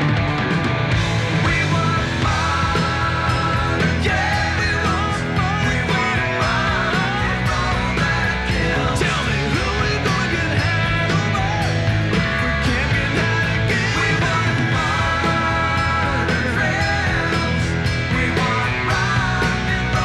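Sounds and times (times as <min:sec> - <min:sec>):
rock band playing: 0:00.0 - 0:20.0
person singing: 0:01.4 - 0:20.0.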